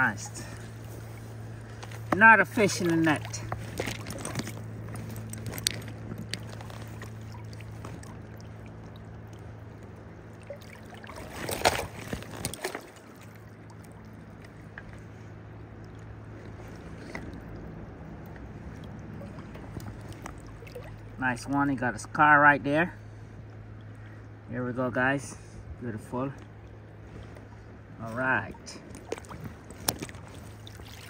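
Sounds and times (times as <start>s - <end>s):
splashing and handling fish: 0.0s - 22.2s, 23.0s - 24.5s, 25.4s - 31.0s
river water flowing: 0.0s - 24.8s, 25.5s - 31.0s
low hum: 0.0s - 31.0s.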